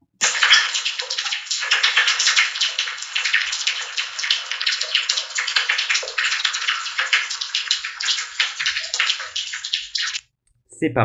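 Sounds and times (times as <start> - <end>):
rain pattering on window glass: 0.0 - 10.2.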